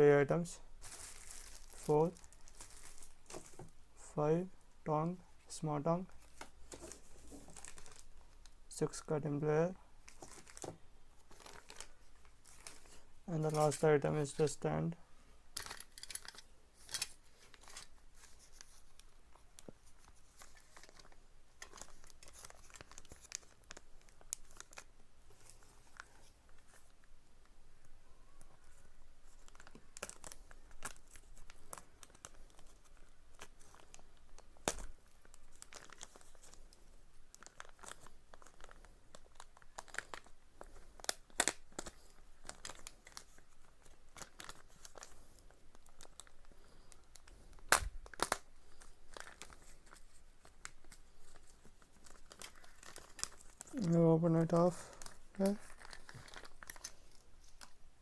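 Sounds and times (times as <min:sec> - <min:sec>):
plastic packaging crinkling and tearing: 0:00.8 - 0:03.7, 0:06.1 - 0:08.6, 0:10.0 - 0:14.6, 0:15.6 - 0:27.0, 0:28.6 - 0:57.8.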